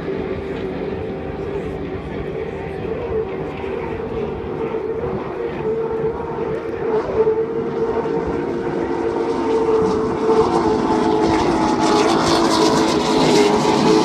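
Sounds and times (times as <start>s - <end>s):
distant engines droning: 0.0s - 14.0s.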